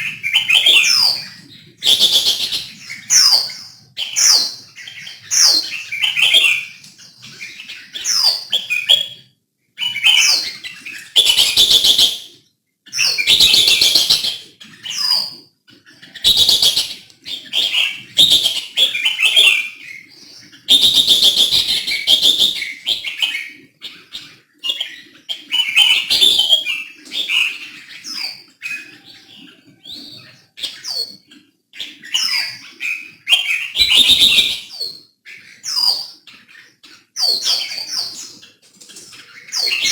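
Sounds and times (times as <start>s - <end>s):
harsh rasping bird calls: 0.0s - 9.2s, 9.8s - 12.3s, 12.9s - 39.9s
bird whistled song: 0.0s - 38.6s, 39.2s - 39.9s.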